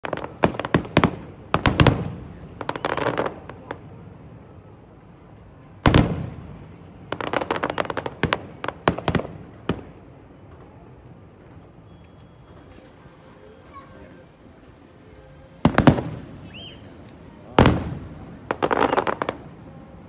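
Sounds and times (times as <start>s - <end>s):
fireworks bangs: 0.0s - 4.1s, 5.6s - 13.2s, 15.4s - 20.0s.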